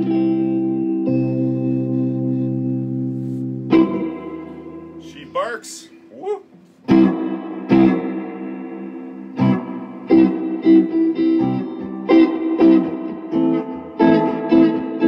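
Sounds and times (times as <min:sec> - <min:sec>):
electric guitar with heavy reverb: 0:00.0 - 0:05.4, 0:06.8 - 0:15.0.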